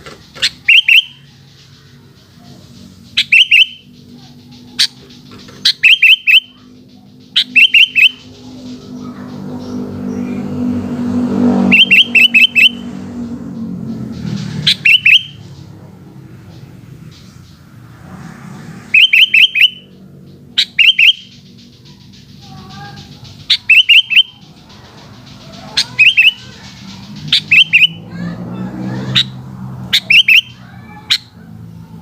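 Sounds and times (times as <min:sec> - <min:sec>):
bulbul singing: 0:00.0 - 0:32.0
low engine-like hum: 0:00.0 - 0:32.0.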